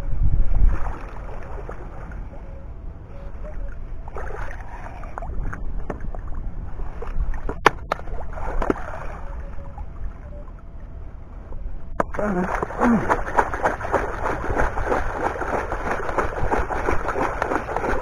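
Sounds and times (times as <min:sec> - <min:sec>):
water sloshing and splashing: 0:00.5 - 0:10.9, 0:11.9 - 0:18.0.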